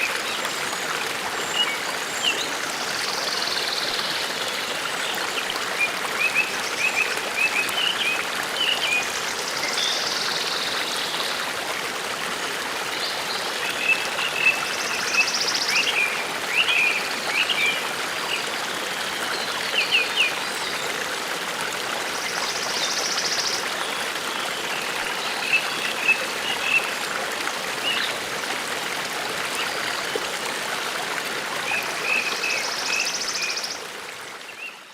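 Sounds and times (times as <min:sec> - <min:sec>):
forest stream running: 0:00.0 - 0:34.9.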